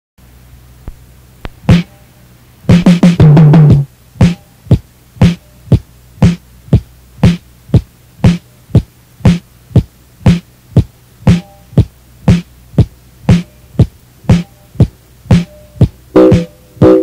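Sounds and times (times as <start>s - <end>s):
rock drums playing: 0.9s - 2.0s, 2.7s - 17.0s.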